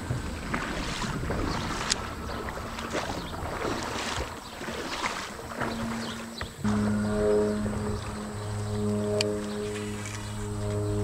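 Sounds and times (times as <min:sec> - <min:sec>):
water lapping around kayak: 0:00.0 - 0:11.0
wind buffeting microphone: 0:00.0 - 0:11.0.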